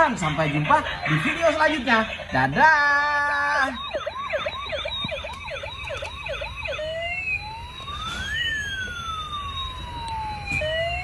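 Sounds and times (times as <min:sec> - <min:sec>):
toy electronic siren: 0:00.0 - 0:11.0.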